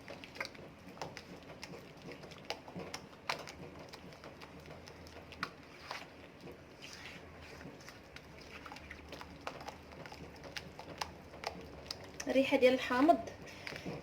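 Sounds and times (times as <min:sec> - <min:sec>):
batter being mixed in a bowl: 0:00.0 - 0:14.0.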